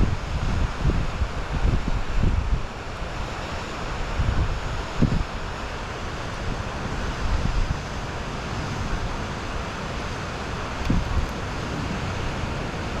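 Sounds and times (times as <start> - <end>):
wind gusts on microphone: 0.0 - 13.0.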